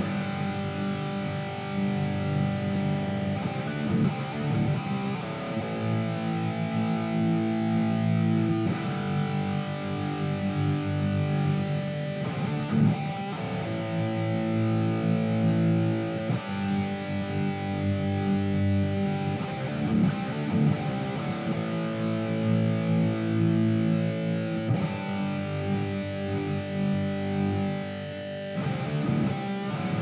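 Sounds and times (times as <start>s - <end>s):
electric guitar strummed chords: 0.0s - 30.0s.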